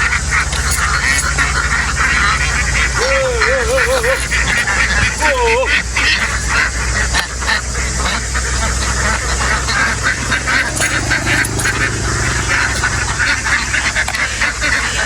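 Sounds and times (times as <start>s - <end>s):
ducks quacking: 0.0s - 15.0s
steady low hum: 0.0s - 15.0s.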